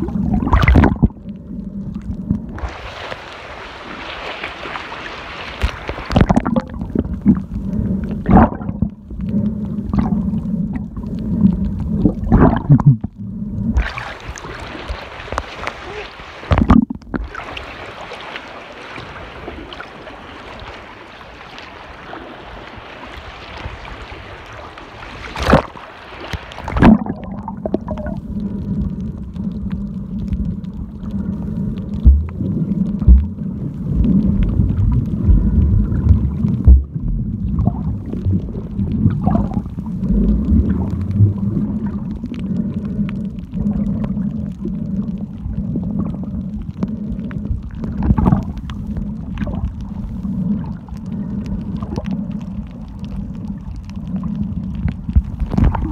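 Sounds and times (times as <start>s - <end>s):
faint crackling clicks: 0.0s - 3.4s, 5.5s - 15.8s, 16.5s - 17.6s, 22.7s - 55.9s
low underwater rumble: 0.0s - 55.9s
water sloshing and splashing: 0.0s - 55.9s.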